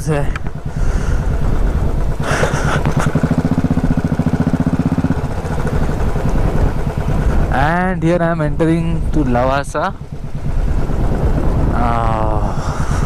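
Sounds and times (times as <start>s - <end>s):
motorcycle engine running: 0.0s - 13.0s
road and wind noise: 0.0s - 13.0s.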